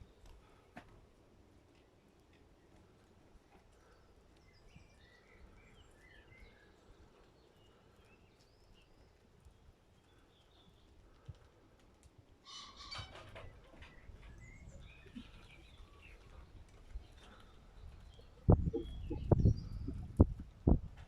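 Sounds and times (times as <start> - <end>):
small birds chirping: 1.8 - 20.8.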